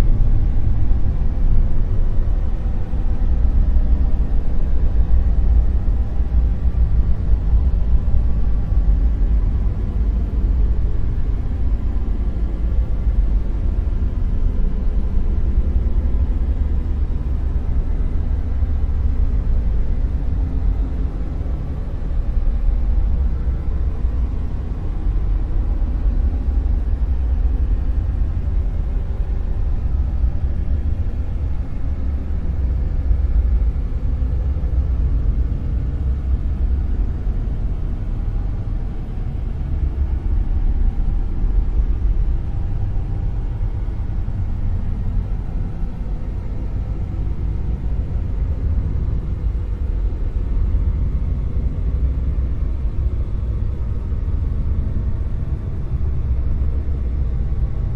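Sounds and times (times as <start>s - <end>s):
deep rumbling hiss: 0.0s - 57.9s.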